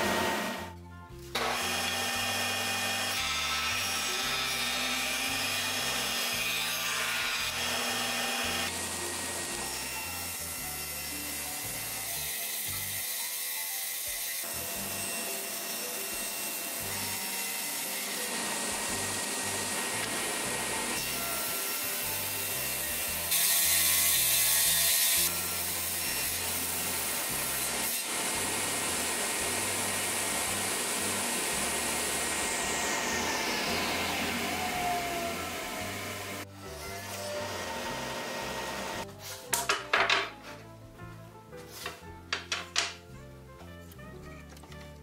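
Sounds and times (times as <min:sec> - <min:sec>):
table saw cutting wood: 0:00.0 - 0:40.4.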